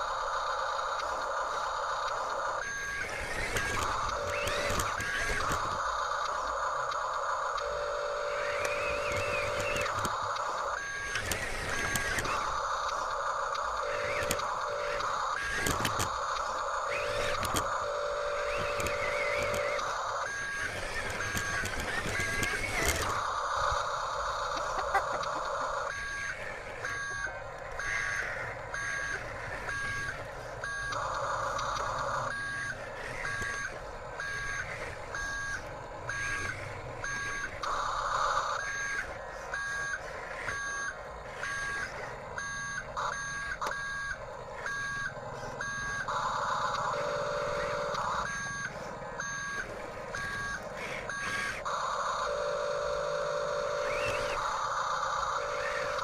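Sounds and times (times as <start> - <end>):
two-tone reversing beep: 2.1 - 7.0, 7.6 - 23.8, 24.5 - 56.0.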